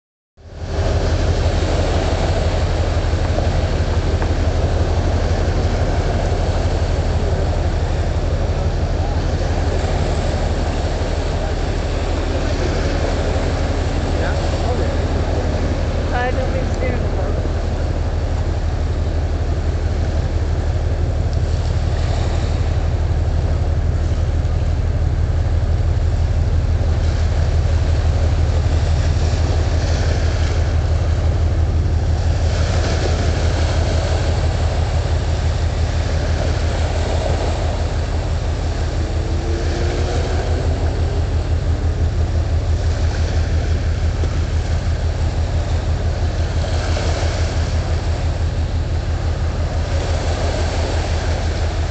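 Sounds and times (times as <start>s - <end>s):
marine engine drone: 0.4s - 51.9s
water noise: 0.4s - 51.9s
wind: 0.4s - 51.9s.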